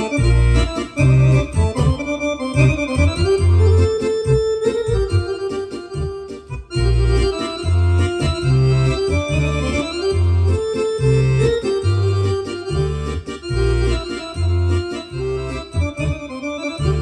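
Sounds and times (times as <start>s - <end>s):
accordion playing a tune: 0.0s - 17.0s.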